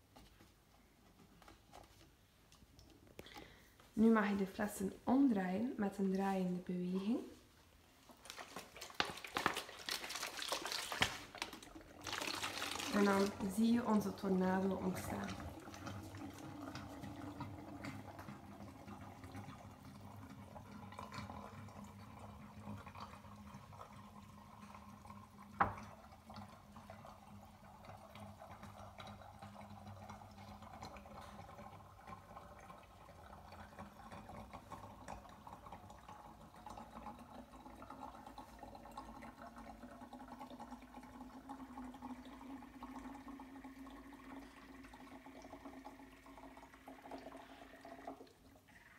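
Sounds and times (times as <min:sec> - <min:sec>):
water swirling through bottles: 0:08.0 - 0:48.8.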